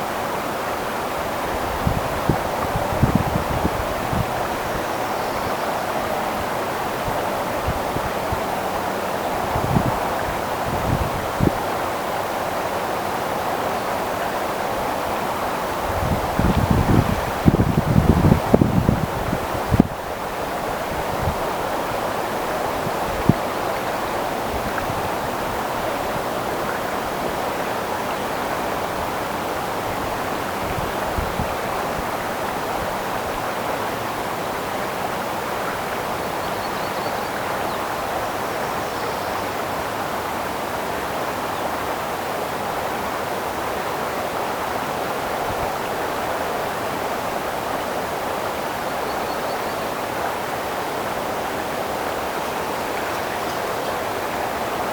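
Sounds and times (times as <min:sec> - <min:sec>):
creek water flowing: 0:00.0 - 0:54.9.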